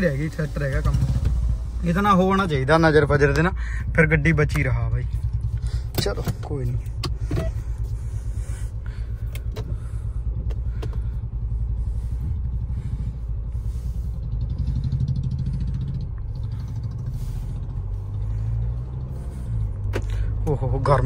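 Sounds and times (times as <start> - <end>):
car rumbling on dirt track: 0.0 - 21.0.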